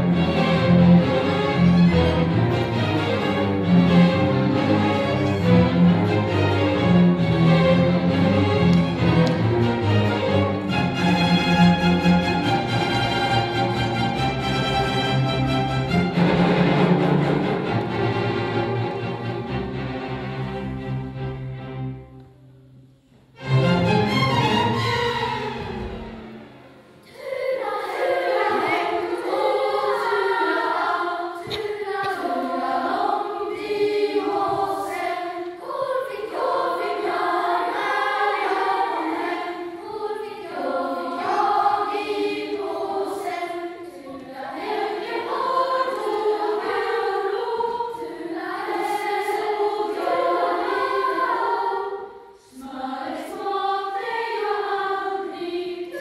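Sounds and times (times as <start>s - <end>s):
children's choir singing: 0.0s - 56.0s.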